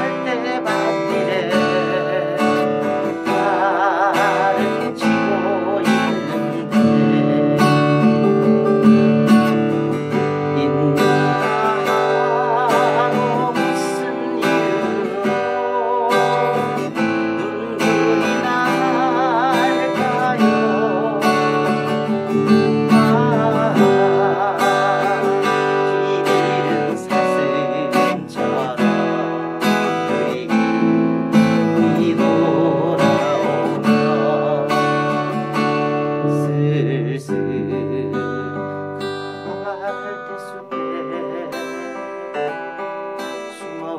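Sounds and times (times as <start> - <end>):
acoustic guitar fingerpicked chords: 0.0 - 43.9.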